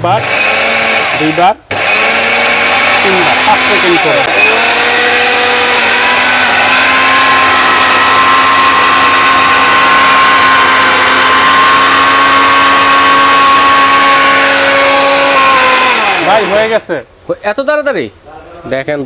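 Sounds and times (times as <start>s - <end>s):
mixer-grinder motor whine: 0.2s - 16.8s
seeds rushing in grinder: 0.3s - 16.7s.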